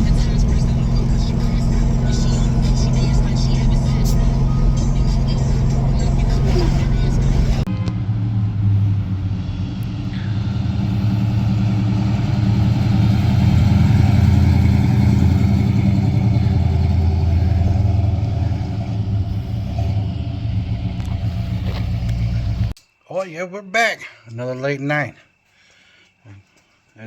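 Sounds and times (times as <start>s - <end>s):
car engine low exhaust drone: 0.0s - 22.8s.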